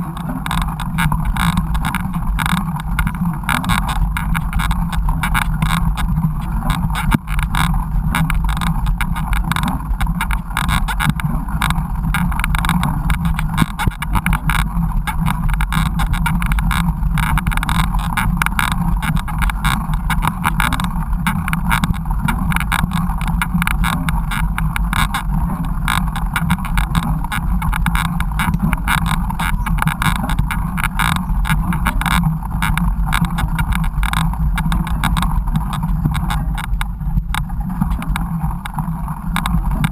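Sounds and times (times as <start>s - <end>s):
bike rattling and knocking: 0.0s - 39.9s
wind rumble: 0.0s - 39.9s.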